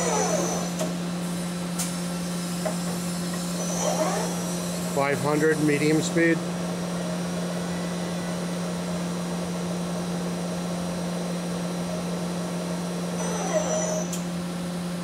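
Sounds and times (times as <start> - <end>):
boring mill machine hum: 0.0 - 15.0.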